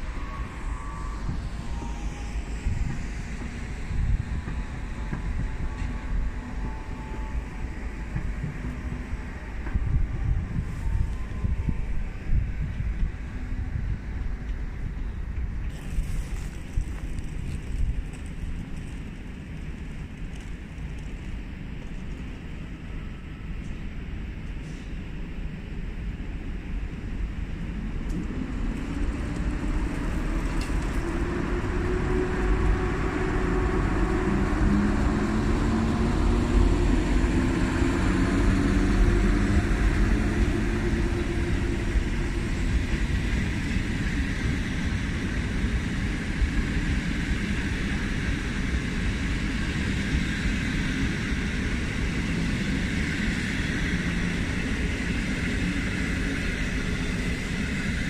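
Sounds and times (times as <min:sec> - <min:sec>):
electric locomotive whine: 0:00.0 - 0:58.0.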